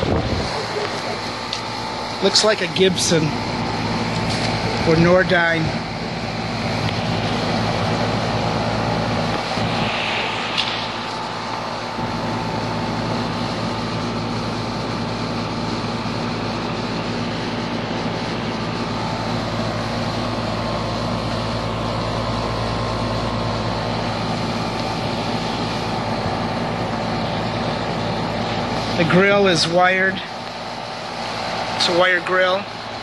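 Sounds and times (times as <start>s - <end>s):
air conditioner fan rushing: 0.0s - 33.0s
low electrical hum: 0.0s - 33.0s.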